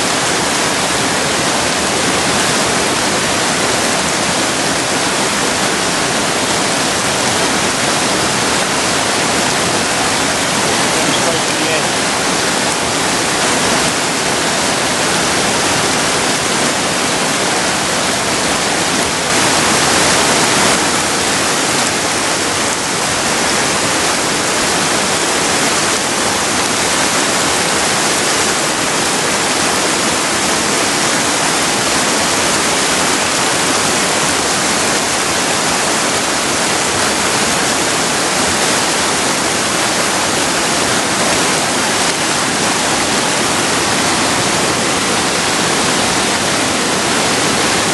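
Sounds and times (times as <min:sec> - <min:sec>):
river rapids rushing: 0:00.0 - 0:47.9.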